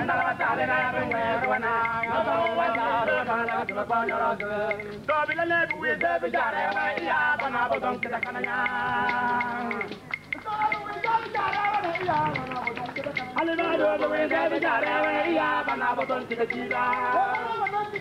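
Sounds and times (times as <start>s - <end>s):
sharp percussive taps: 0.0s - 18.0s
voices singing a chant: 0.0s - 18.0s.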